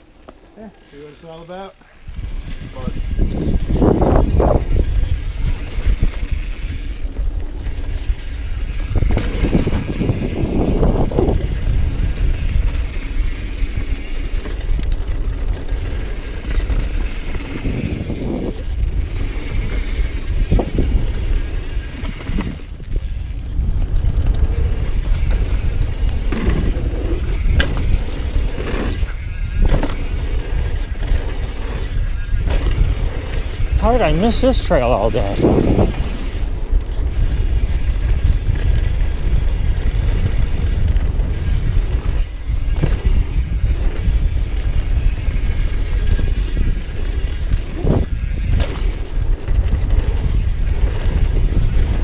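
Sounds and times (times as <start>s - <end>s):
bike tyre noise on dirt: 0.0s - 52.0s
bike knocks and rattles: 1.8s - 34.5s, 35.4s - 52.0s
wind rumble on microphone: 2.0s - 52.0s.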